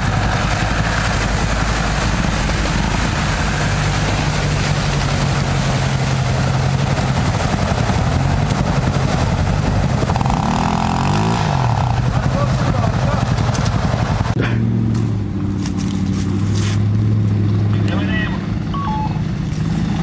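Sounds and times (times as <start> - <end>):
mud and water splashing: 0.0 - 20.0.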